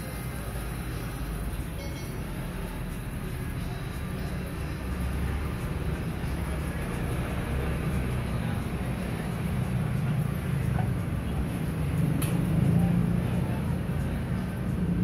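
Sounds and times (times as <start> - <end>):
gas burner roaring: 2.4 - 15.0.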